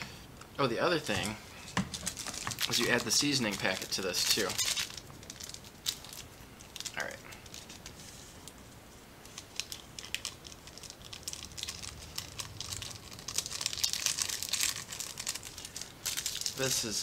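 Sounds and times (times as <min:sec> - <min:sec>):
seasoning packet crinkling: 0:01.0 - 0:08.0, 0:09.2 - 0:17.0.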